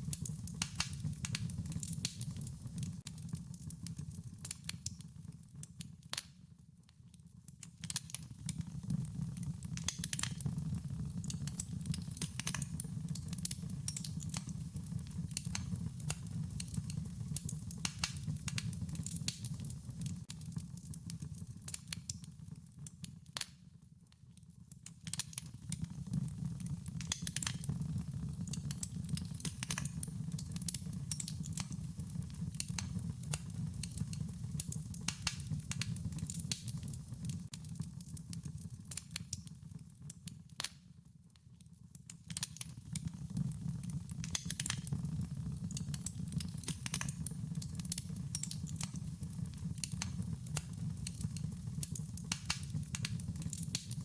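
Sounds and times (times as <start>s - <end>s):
wood fire crackling: 0.0s - 6.4s, 7.4s - 23.8s, 24.6s - 40.9s, 42.1s - 54.0s.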